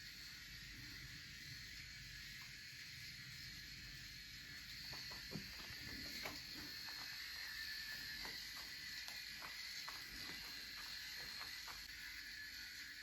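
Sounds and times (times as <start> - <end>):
electric shaver humming: 0.0 - 13.0.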